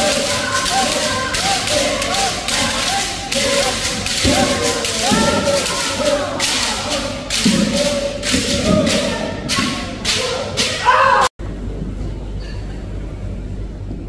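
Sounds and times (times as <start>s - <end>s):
group shouting in rhythm: 0.0s - 11.3s.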